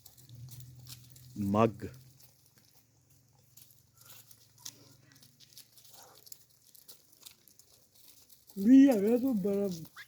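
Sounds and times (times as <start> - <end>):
faint clicks and rustles: 0.0 - 10.0.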